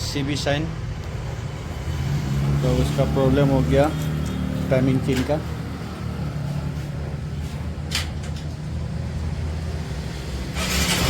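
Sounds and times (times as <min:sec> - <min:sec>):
engine mechanical noise: 0:00.8 - 0:11.0.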